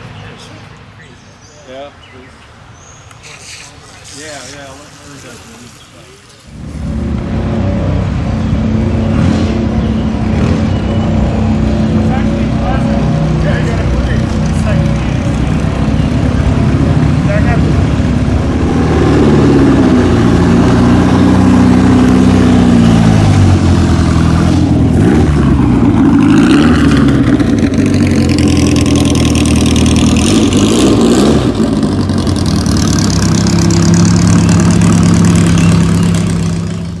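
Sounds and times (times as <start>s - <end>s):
second sports car engine: 6.3s - 37.0s
sports car engine revving: 6.5s - 37.0s.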